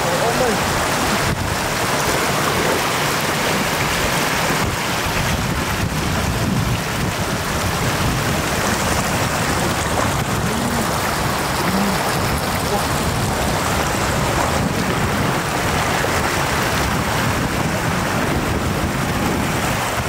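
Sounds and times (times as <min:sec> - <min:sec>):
floodwater rushing over ground: 0:00.0 - 0:20.0.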